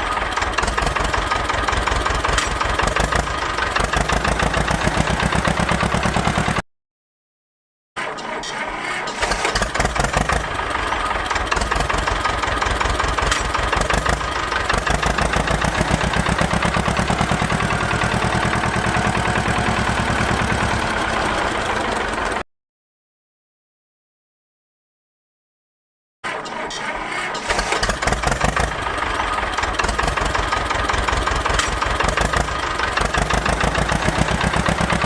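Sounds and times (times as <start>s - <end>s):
small petrol engine running: 0.0s - 6.6s, 8.9s - 22.4s, 26.3s - 35.0s.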